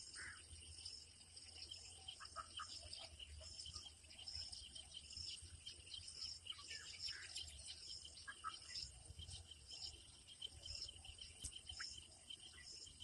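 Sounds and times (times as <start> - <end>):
bird chirps: 0.0 - 13.0
insects trilling: 0.0 - 13.0.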